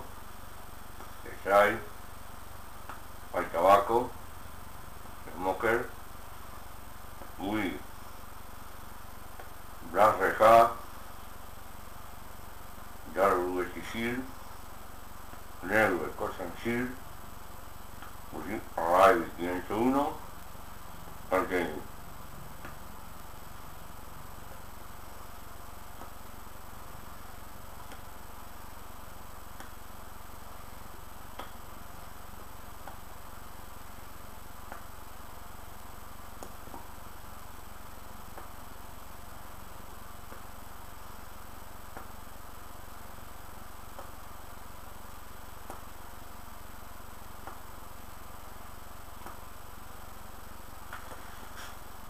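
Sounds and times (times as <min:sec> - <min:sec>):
room tone hum and hiss: 0:00.0 - 0:52.0.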